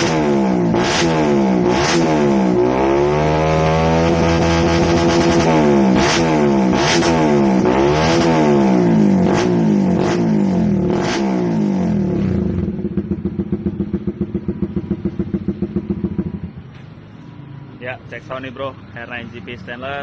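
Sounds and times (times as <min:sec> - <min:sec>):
motorcycle engine revving: 0:00.0 - 0:17.6.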